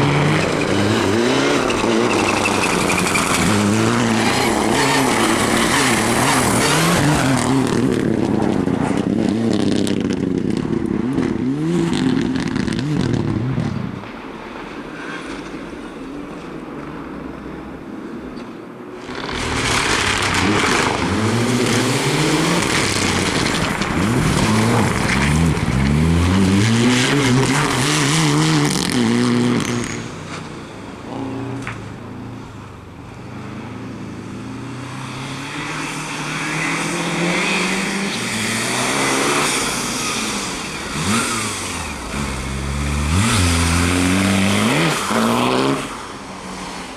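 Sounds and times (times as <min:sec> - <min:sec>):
rally car engines revving hard: 0:00.0 - 0:14.0, 0:19.0 - 0:31.8, 0:33.6 - 0:46.9.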